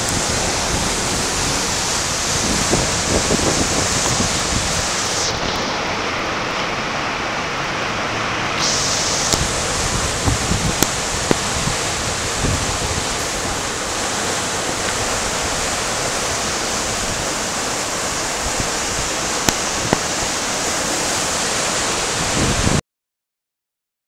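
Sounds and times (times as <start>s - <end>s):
fast river water rushing: 0.0s - 22.8s.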